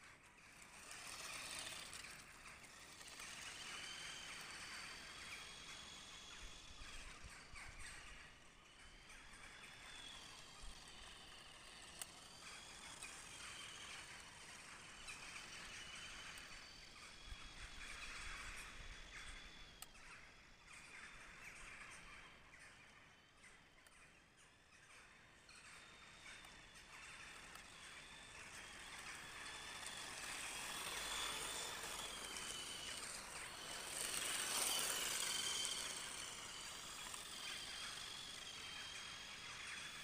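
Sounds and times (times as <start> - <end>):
toy car rolling on paving stones: 0.1 - 19.9, 25.9 - 40.0
electric motor whine: 0.4 - 21.8, 25.2 - 40.0.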